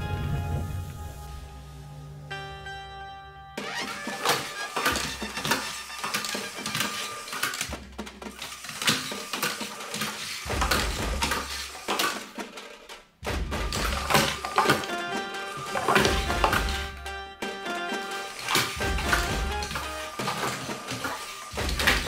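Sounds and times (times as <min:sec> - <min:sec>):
plastic wheels clattering on wooden floor: 0:03.6 - 0:22.0.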